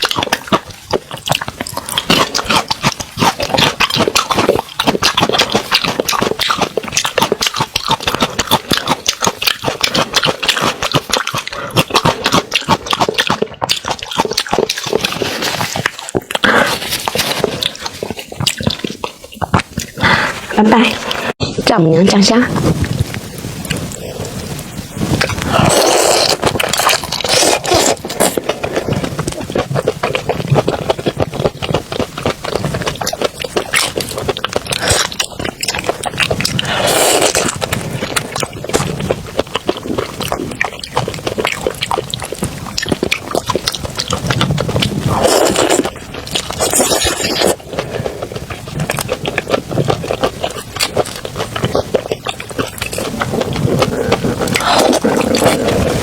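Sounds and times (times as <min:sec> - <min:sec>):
chewing and crunching shrimp: 0:00.0 - 0:21.4, 0:22.2 - 0:56.0.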